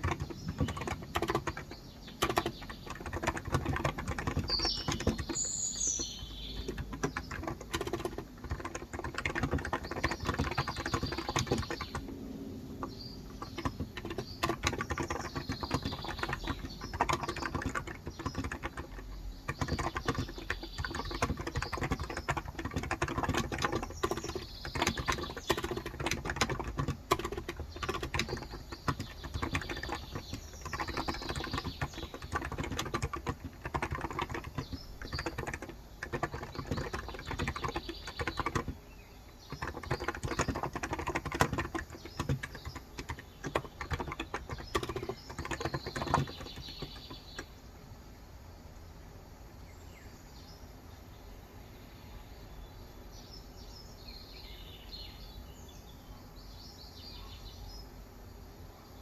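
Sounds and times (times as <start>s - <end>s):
rapid keyboard typing: 0.0s - 47.6s
bird chirping: 0.0s - 47.8s, 49.6s - 58.0s.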